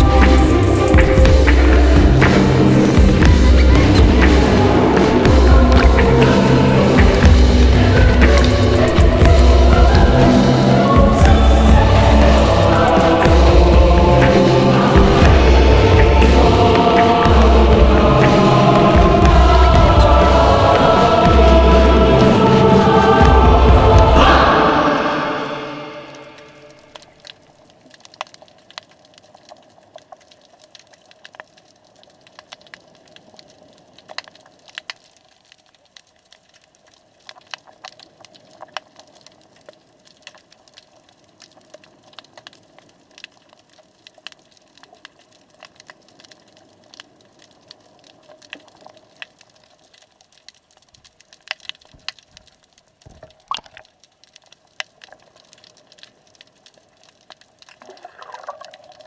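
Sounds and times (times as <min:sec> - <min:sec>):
underwater clicks and crackles: 0:00.0 - 0:17.4, 0:26.4 - 0:59.0.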